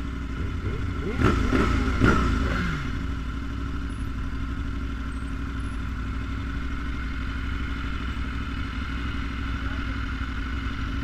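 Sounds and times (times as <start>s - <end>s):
motorcycle engines idling: 0.0s - 11.0s.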